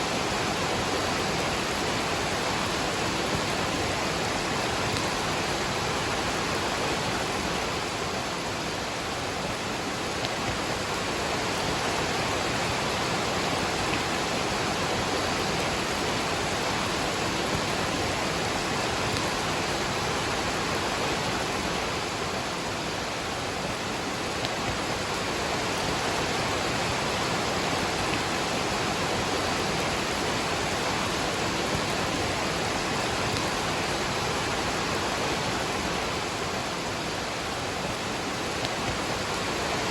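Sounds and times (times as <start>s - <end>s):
rain falling: 0.0s - 39.9s
waterfall rushing: 0.0s - 39.9s.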